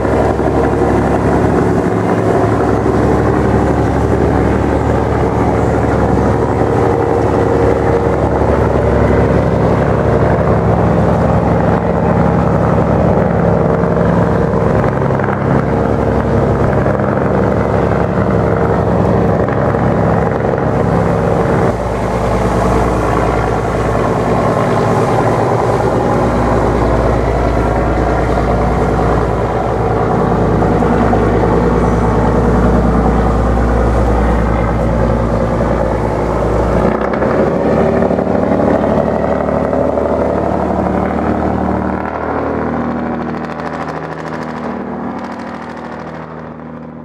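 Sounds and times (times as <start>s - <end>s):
boat breaking river ice: 0.0s - 47.0s
boat engine running: 0.0s - 47.0s.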